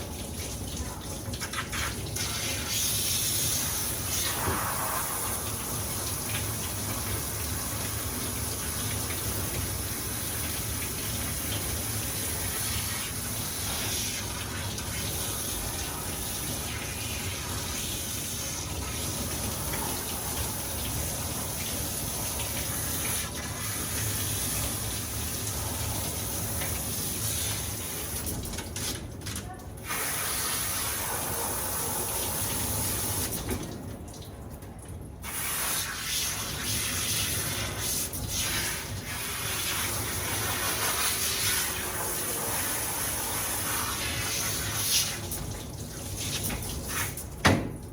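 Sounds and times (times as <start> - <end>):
water running from a tap: 0.0 - 47.9.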